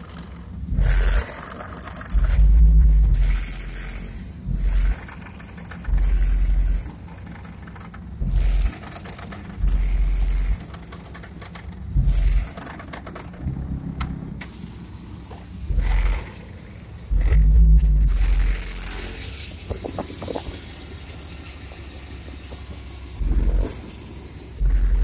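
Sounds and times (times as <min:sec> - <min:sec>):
deep bass from subwoofers: 0:00.0 - 0:11.1, 0:11.7 - 0:25.0
bumper and trim rattling: 0:00.0 - 0:25.0.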